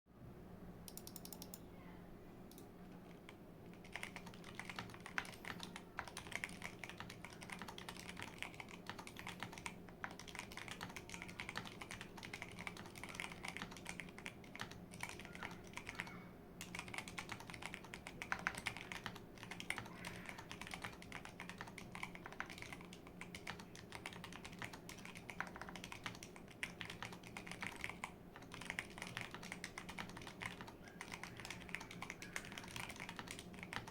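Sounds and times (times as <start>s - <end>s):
typing on mechanical keyboard: 0.9s - 1.6s, 2.5s - 33.9s.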